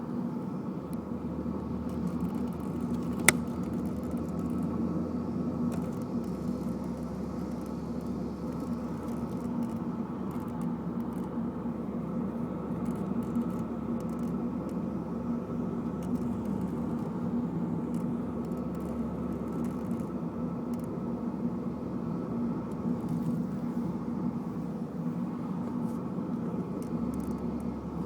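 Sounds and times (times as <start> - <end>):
car cabin drone: 0.0 - 28.0.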